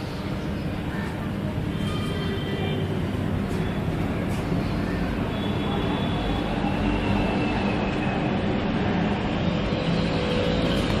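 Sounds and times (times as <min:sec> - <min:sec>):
ceiling fan rumbling and rattling: 0:00.0 - 0:11.0.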